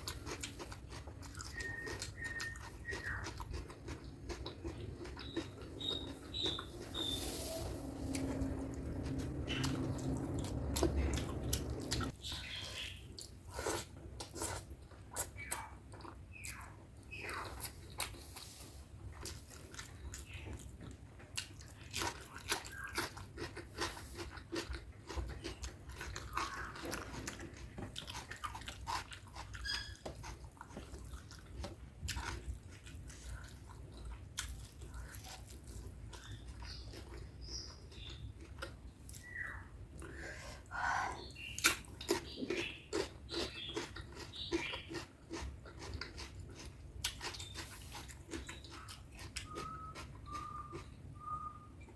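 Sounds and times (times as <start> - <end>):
close chewing and biting: 0.0 - 40.2, 41.2 - 51.6.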